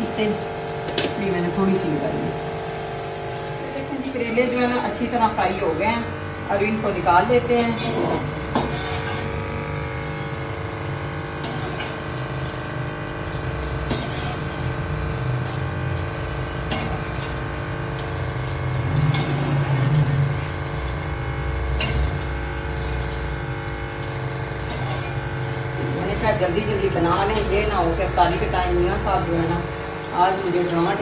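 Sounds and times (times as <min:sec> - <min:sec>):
oil sizzling: 0:00.0 - 0:31.0
steady hum: 0:00.0 - 0:31.0.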